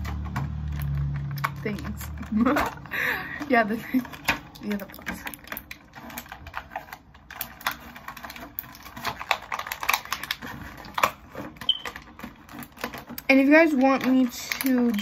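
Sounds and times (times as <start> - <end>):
plastic bag crinkling: 0.0 - 15.0
small plastic parts clicking: 0.0 - 15.0.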